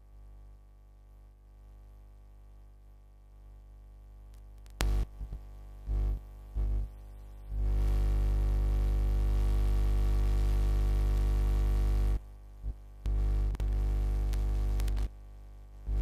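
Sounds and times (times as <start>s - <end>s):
loud electrical hum-buzz: 0.0s - 16.0s.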